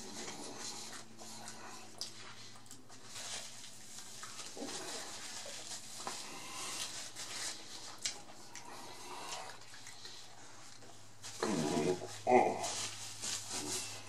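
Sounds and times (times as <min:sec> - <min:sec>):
close chewing mouth sounds: 0:00.0 - 0:12.2.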